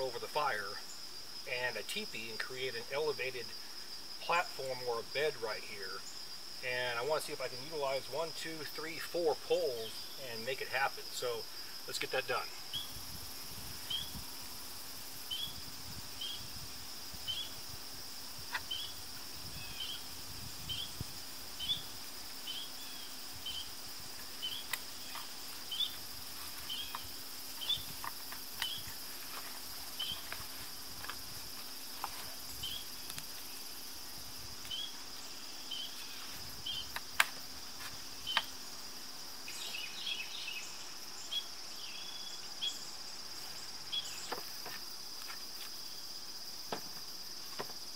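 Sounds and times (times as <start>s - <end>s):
insect chorus trilling: 0.0s - 47.9s.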